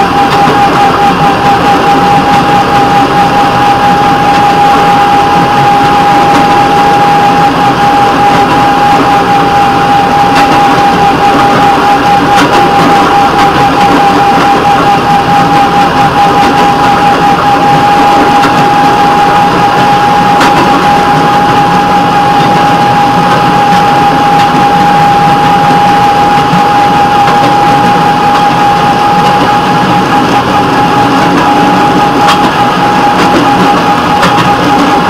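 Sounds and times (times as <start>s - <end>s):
constant high whine: 0.0s - 35.0s
rail vehicle running on track: 0.0s - 35.0s.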